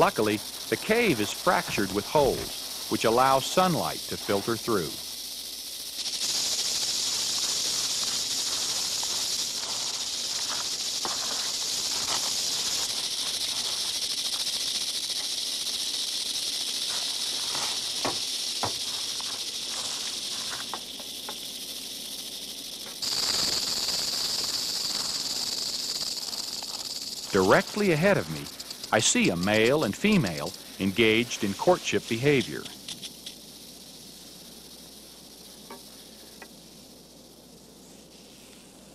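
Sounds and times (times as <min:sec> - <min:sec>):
rattlesnakes rattling: 0:00.0 - 0:38.9.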